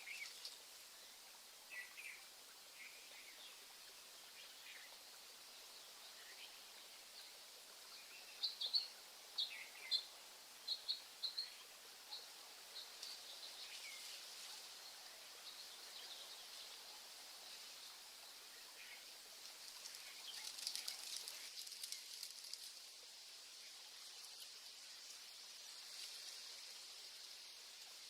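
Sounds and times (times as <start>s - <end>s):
outdoor nature hiss: 0.0s - 28.0s.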